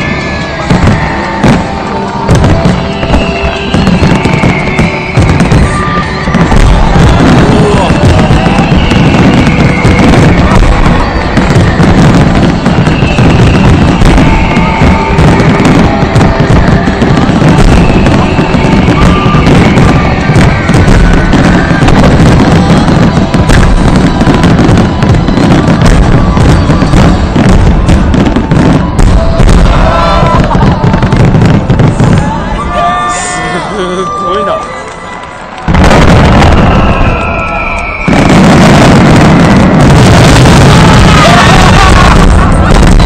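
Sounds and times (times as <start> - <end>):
music playing: 0.0 - 36.5
fireworks bangs and crackles: 0.0 - 43.0.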